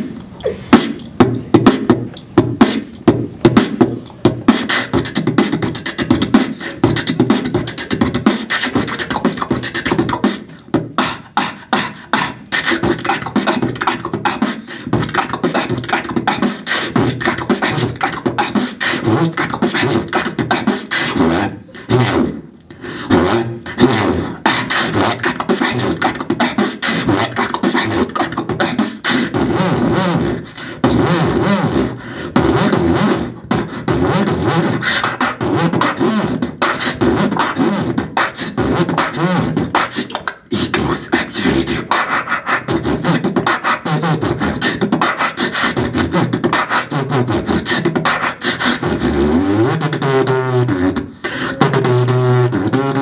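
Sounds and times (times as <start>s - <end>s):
man beatboxing: 0.0s - 53.0s.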